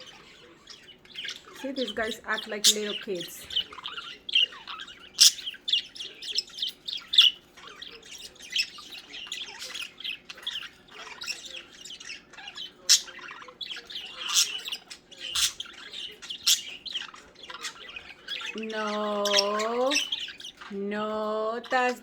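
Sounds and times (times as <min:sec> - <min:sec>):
budgerigars chattering and squawking: 0:00.0 - 0:22.0.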